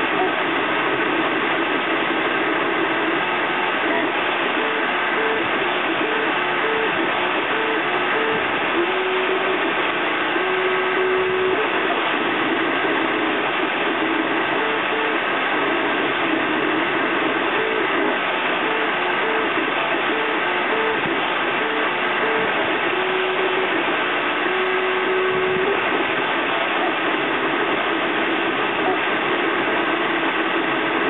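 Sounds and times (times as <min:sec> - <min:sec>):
cooling fan hiss: 0:00.0 - 0:31.0.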